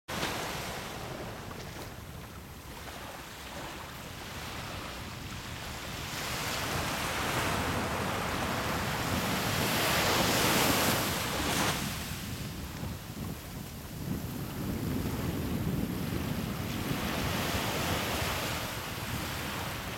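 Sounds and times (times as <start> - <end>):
surf washing on beach: 0.1 - 19.9
wind buffeting microphone: 0.1 - 19.9.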